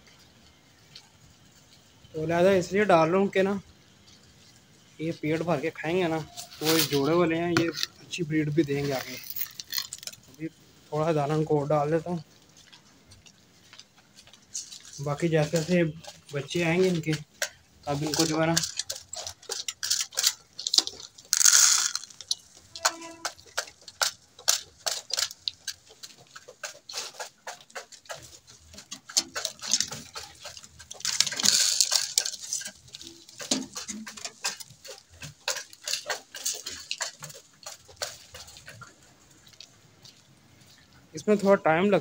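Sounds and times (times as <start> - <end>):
pigeons pecking grain: 0.0 - 42.0.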